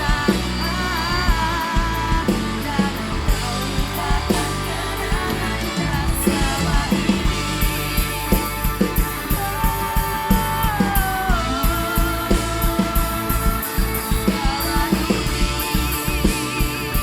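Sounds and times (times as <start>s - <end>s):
drum kit beat: 0.0s - 17.0s
live band playing pop-rock: 0.0s - 17.0s
wavering lead melody: 0.0s - 17.0s.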